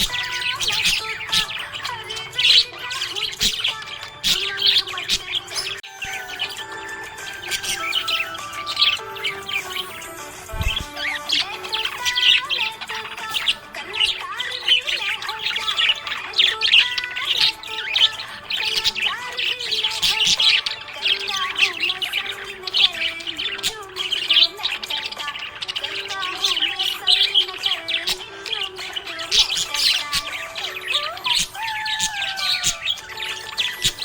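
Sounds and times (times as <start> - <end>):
budgerigars chirping and warbling: 0.0 - 34.0.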